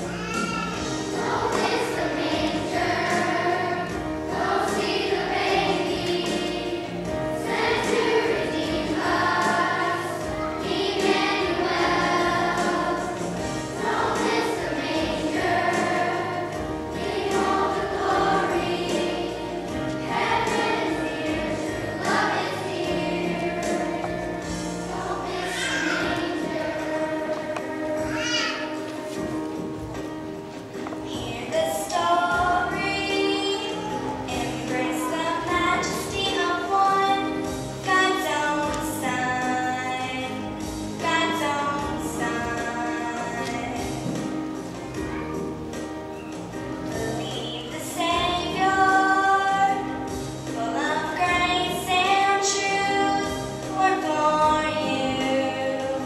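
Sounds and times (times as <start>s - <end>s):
children's choir singing: 0.0s - 56.0s
instrumental accompaniment: 0.0s - 56.0s.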